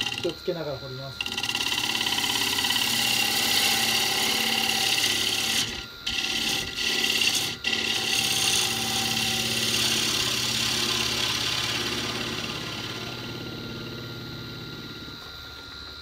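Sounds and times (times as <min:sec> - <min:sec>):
gouge cutting spinning wood: 0:00.0 - 0:15.4
wood lathe motor humming: 0:00.0 - 0:16.0.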